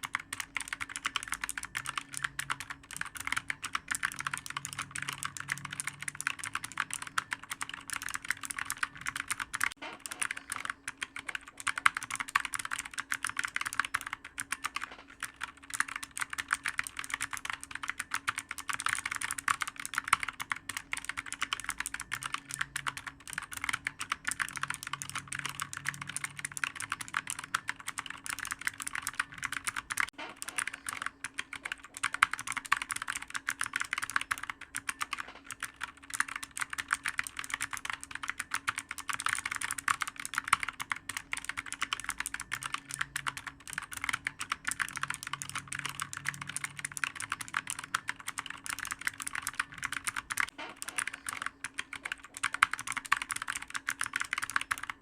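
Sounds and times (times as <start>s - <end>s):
fast typing on clicky keyboard: 0.0s - 55.0s.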